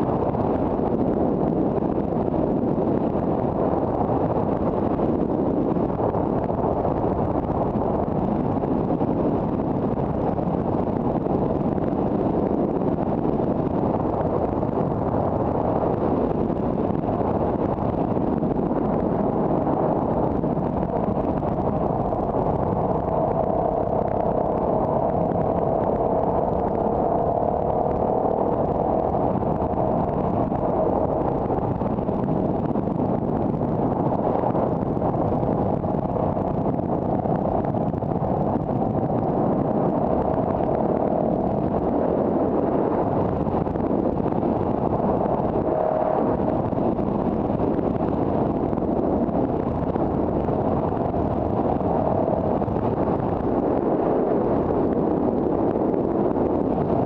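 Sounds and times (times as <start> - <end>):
car road and engine noise: 0.0 - 56.5
faint hum: 0.0 - 57.0.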